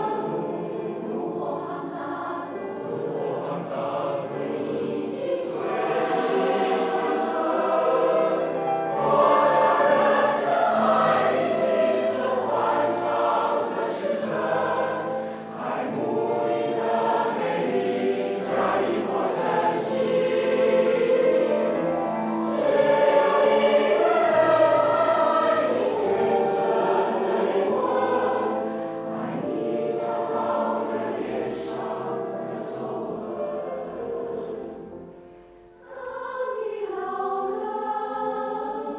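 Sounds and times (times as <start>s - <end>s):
choir singing slow song: 0.0s - 38.9s.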